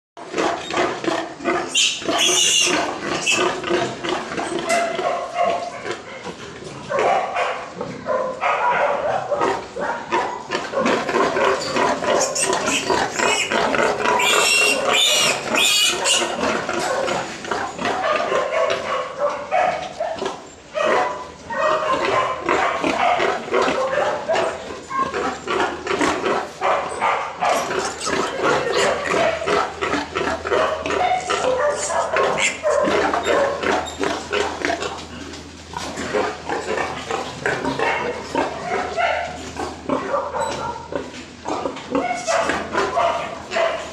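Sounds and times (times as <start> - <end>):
pigs grunting and squealing: 0.2 - 43.9.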